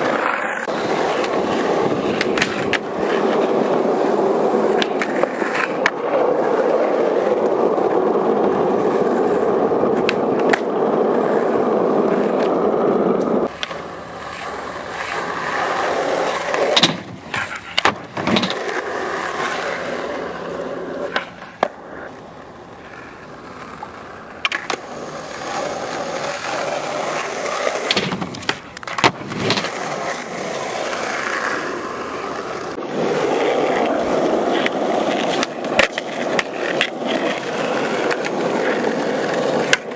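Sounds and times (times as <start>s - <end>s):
skateboard clacks and slaps: 0.0s - 39.9s
skateboard wheels rolling on asphalt: 0.0s - 39.9s.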